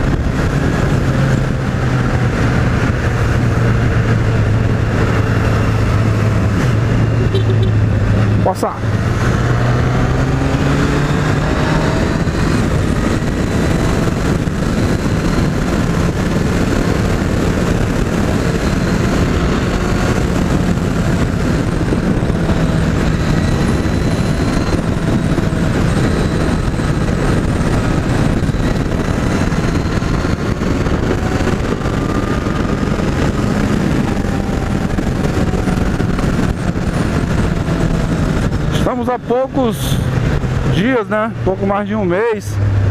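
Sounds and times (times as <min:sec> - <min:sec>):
motorcycle engine cruising: 0:00.0 - 0:42.9
wind rushing on microphone: 0:00.0 - 0:42.9.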